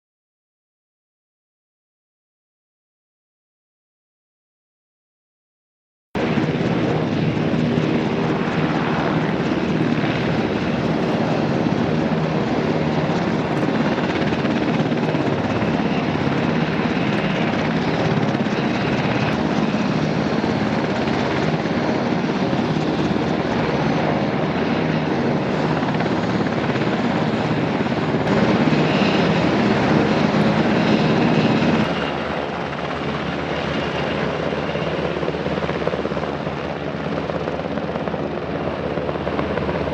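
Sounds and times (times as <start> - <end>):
helicopter rotor and engine: 6.2 - 39.9.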